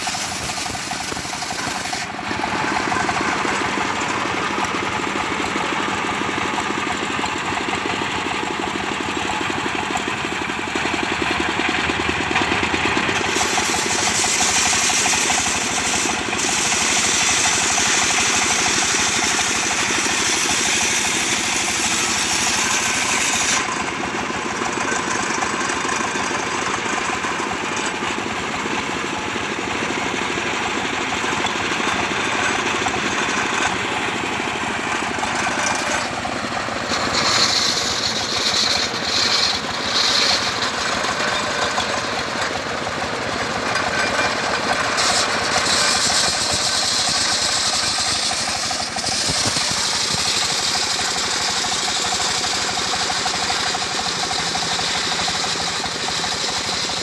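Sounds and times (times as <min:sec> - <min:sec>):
diesel engine running: 0:00.0 - 0:57.0
saw blade whining through log: 0:00.0 - 0:57.0.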